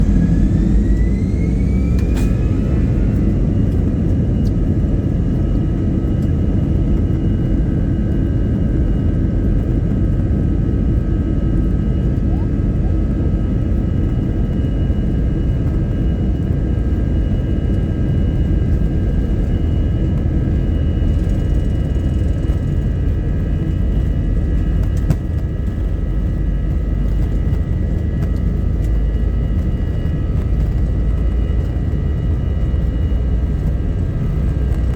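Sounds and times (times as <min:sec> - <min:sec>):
jet engines spooling up: 0:00.0 - 0:10.3, 0:11.0 - 0:34.9.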